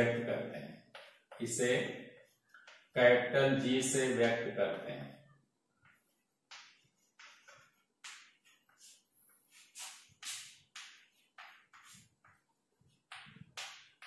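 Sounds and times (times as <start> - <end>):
chalk scratching on chalkboard: 0.0 - 4.2, 5.8 - 14.0.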